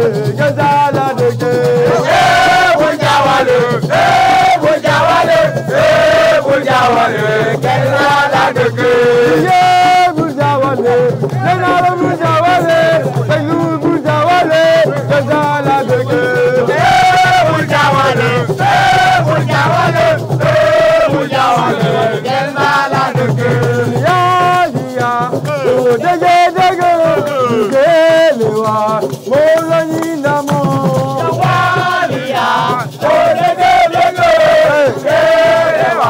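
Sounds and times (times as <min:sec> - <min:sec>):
person singing: 0:00.0 - 0:36.0
shaker percussion: 0:00.0 - 0:36.0.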